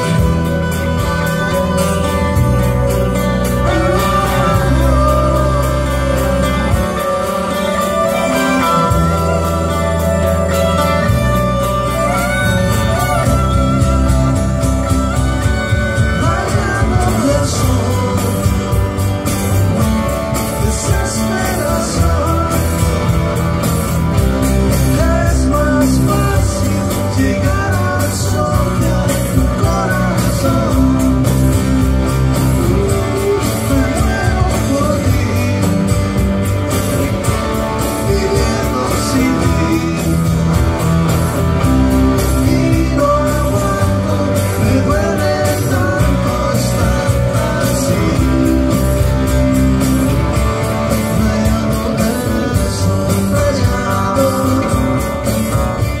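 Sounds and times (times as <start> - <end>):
acoustic-electric guitar strumming: 0.0 - 56.0
bass line: 0.0 - 56.0
electric guitar: 0.0 - 56.0
man singing: 0.0 - 56.0
steady drum beat: 0.0 - 56.0.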